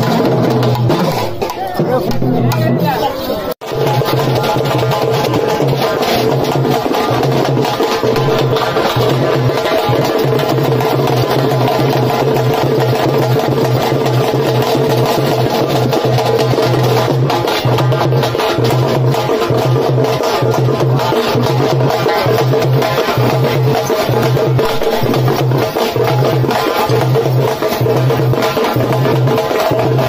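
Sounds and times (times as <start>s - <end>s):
double-headed drums beaten fast: 0.0s - 30.0s.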